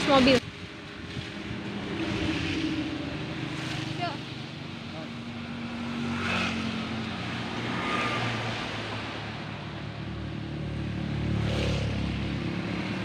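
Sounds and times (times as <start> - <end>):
road traffic: 0.0 - 13.0
vehicle passing: 1.1 - 13.0.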